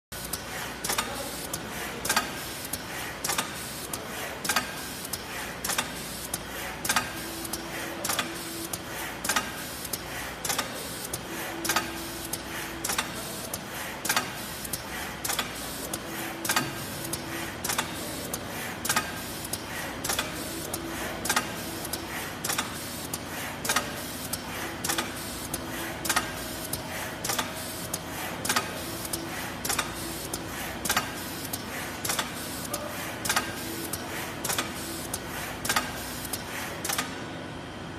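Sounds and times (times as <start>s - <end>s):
sharp mechanical clack: 0.2s - 37.2s
steady machine whir: 0.2s - 37.9s.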